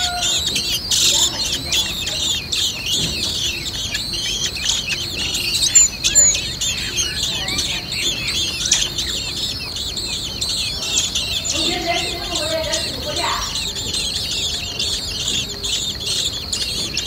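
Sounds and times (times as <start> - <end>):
nestlings chirping: 0.0 - 17.0.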